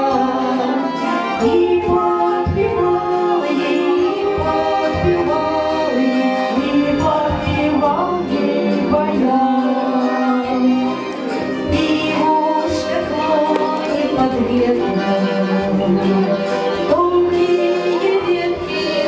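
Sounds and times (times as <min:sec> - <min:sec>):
two women singing a duet: 0:00.0 - 0:19.0.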